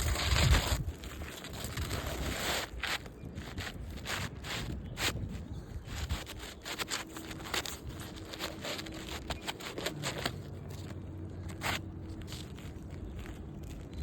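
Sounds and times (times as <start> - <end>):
roof shingle scraping and crackling: 0.0 - 14.0.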